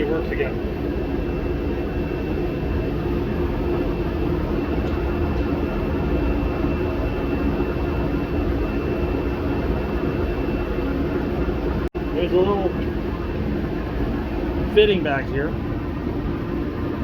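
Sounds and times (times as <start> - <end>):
faint high whine: 0.0 - 17.0
shop heater drone: 0.0 - 17.0.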